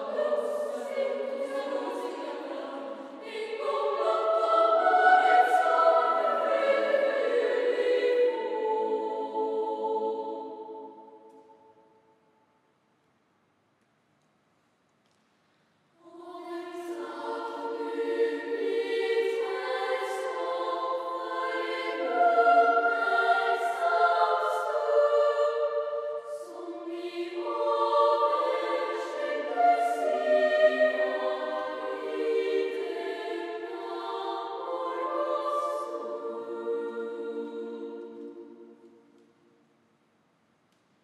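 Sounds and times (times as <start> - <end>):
children's choir singing: 0.0 - 11.6, 16.0 - 39.4.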